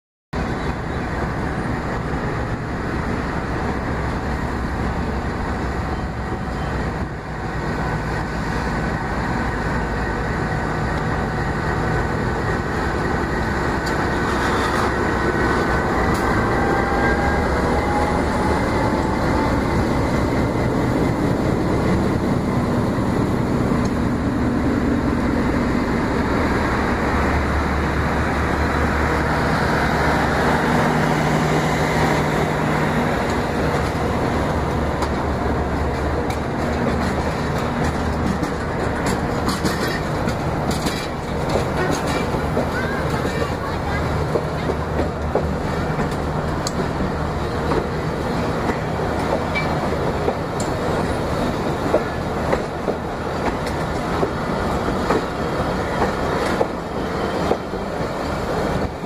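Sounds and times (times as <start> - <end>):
locomotive engine running: 0.4 - 59.0
train coaches rumbling past: 0.4 - 59.0.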